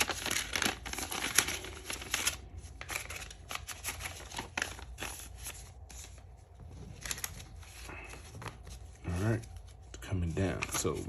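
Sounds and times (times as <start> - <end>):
paper money rustling: 0.0 - 11.0.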